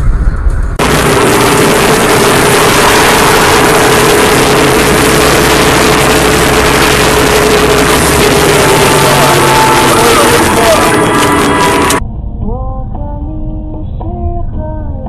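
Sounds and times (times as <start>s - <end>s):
faint steady hum: 0.0s - 14.9s
low engine rumble: 0.0s - 15.0s.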